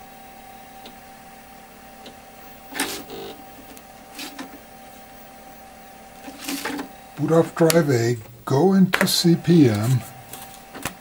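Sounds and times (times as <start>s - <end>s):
floppy drive humming and clicking: 0.0s - 11.0s.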